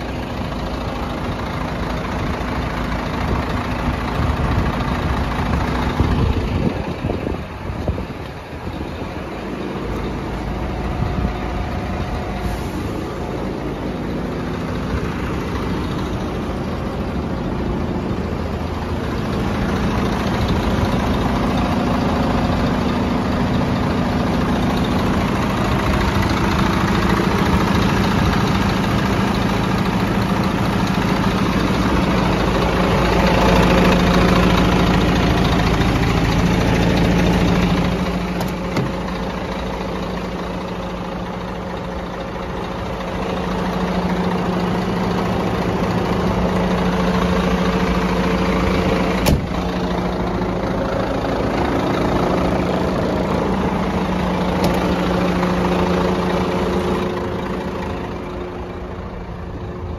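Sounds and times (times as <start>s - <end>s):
diesel truck idling: 0.0s - 59.9s.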